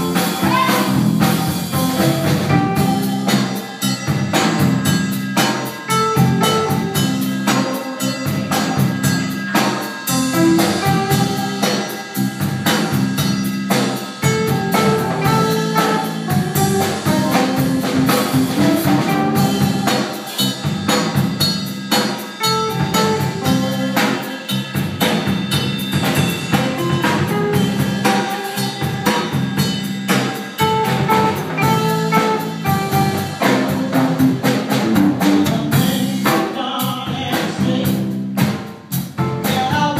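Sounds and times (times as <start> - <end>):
blues band playing: 0.0 - 39.9
drum kit steady beat: 0.0 - 39.9.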